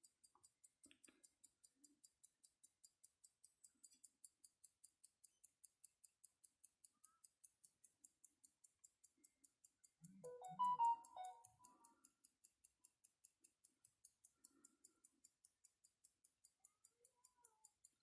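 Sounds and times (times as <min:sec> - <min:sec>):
pocket watch ticking: 0:00.0 - 0:18.0.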